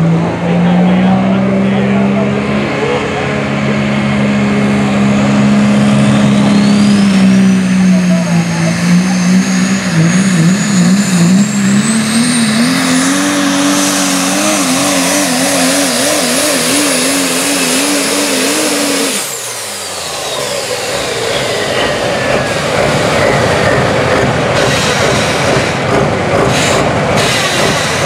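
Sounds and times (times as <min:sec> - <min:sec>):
diesel truck engine at full power: 0:00.0 - 0:28.0.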